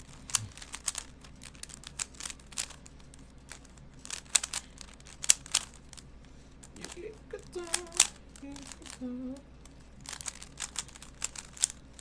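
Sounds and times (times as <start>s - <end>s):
puzzle cube layers clicking: 0.0s - 9.0s, 10.0s - 12.0s.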